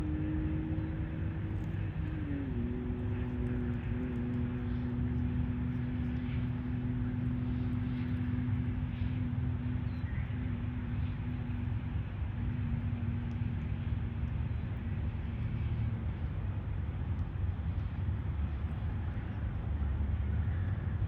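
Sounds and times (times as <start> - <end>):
low motor drone: 0.0 - 21.0.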